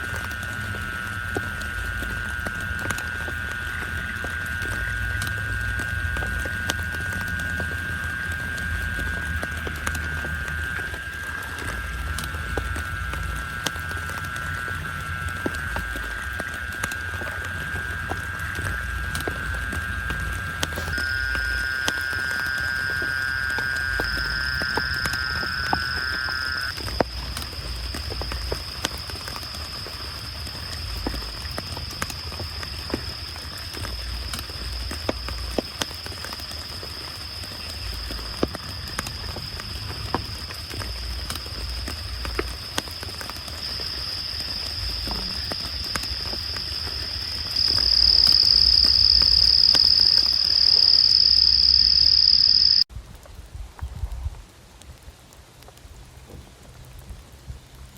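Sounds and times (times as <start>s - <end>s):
rain drips: 0.0s - 57.9s.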